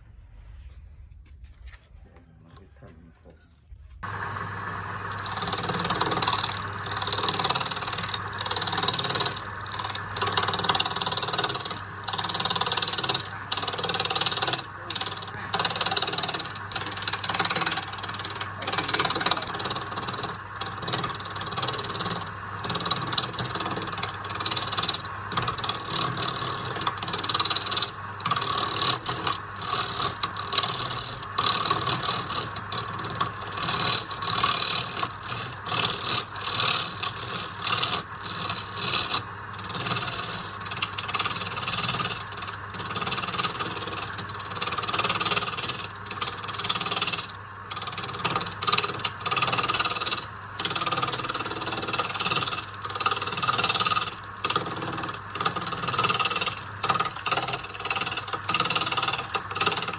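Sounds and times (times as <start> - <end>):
hand tool scraping wood: 5.1 - 59.9.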